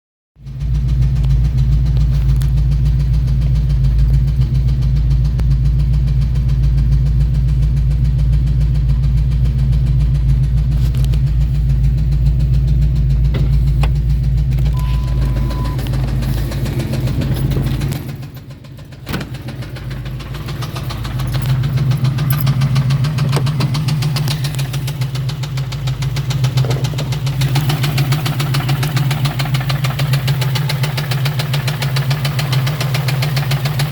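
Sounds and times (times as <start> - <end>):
car engine running: 0.4 - 33.9
fine repetitive engine ticking: 0.4 - 33.9.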